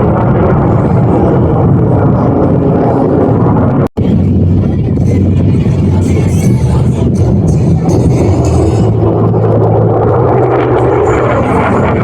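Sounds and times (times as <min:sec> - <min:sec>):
jet aircraft engine: 0:00.0 - 0:12.0.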